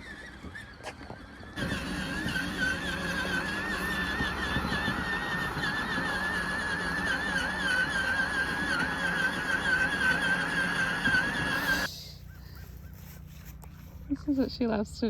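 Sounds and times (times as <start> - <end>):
toy car electric motor whining: 0.0 - 13.1.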